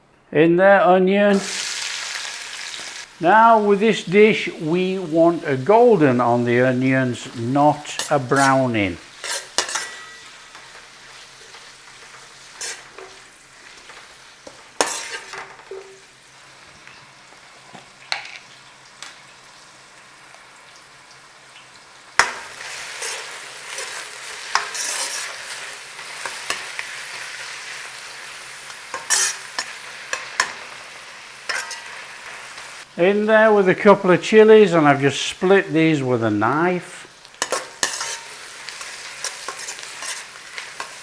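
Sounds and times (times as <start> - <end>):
onions sizzling in a pan: 1.3 - 41.0.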